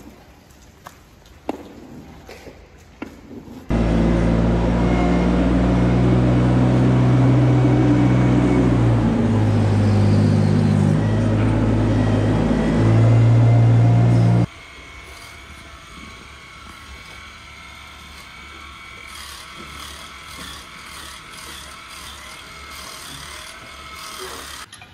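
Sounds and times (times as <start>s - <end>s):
small farm machine engine running: 3.7s - 24.7s.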